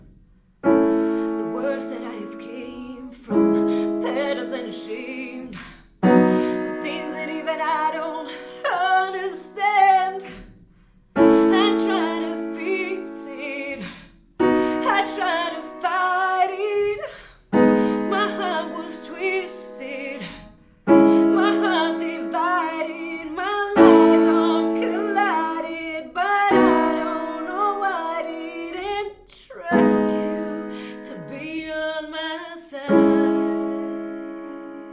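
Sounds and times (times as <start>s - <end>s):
piano ballad: 0.6s - 10.6s, 11.2s - 34.9s.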